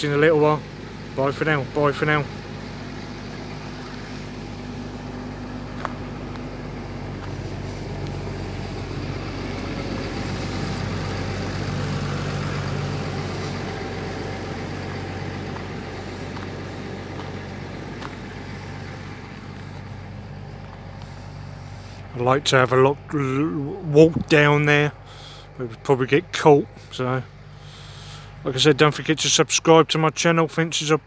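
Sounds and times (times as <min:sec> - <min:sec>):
vehicle engine drone passing: 0:00.0 - 0:30.0.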